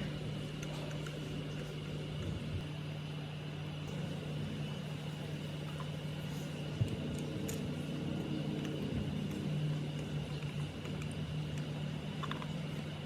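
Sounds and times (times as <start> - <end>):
water pump motor hum: 0.0 - 13.0.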